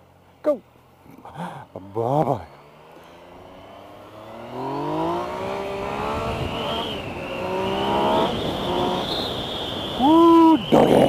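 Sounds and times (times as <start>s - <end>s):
motorcycle engine accelerating: 2.0s - 11.0s.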